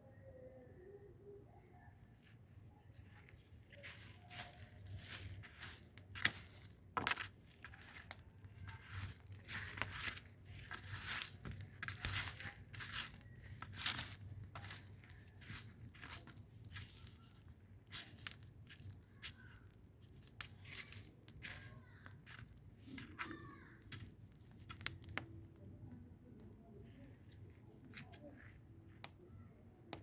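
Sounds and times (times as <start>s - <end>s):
dry leaves and twigs crackling: 2.2s - 30.0s.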